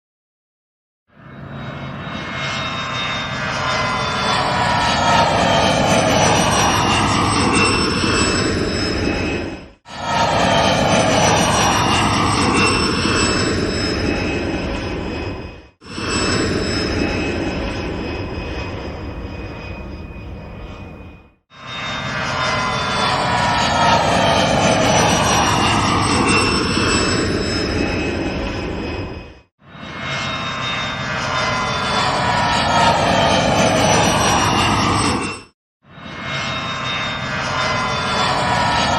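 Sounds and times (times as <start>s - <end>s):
jet airplane flying past: 1.1s - 38.9s
jet engine whine: 1.1s - 38.9s.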